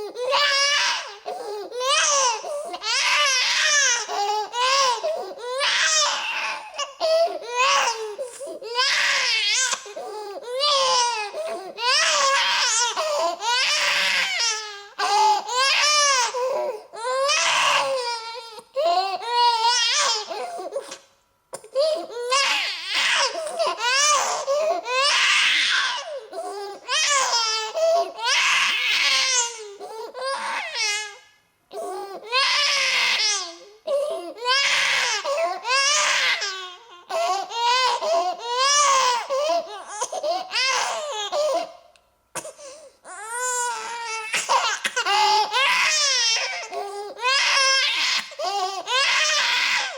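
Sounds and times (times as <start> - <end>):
infant crying: 0.0 - 21.0, 21.6 - 41.8, 42.6 - 49.9.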